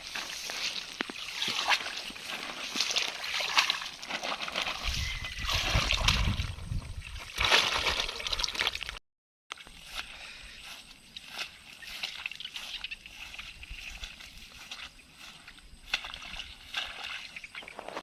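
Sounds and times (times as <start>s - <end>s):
water sloshing and splashing: 0.0s - 9.0s, 11.2s - 14.9s, 15.8s - 18.0s.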